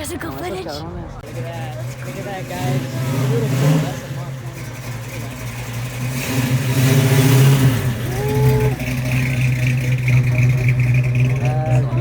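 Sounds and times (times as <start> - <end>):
car engine revving: 1.2 - 12.0.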